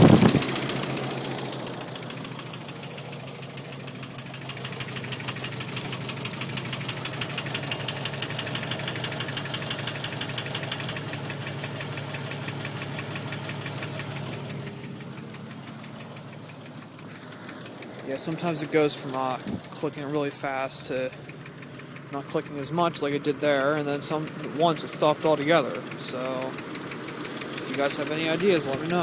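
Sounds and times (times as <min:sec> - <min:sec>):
engine hum: 0:00.0 - 0:29.0
fast engine knock clicking: 0:00.0 - 0:29.0.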